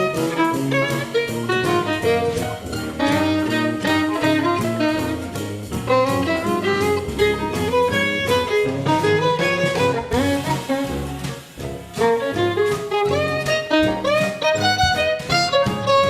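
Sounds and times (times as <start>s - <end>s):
upbeat music with bowed strings: 0.0s - 16.0s.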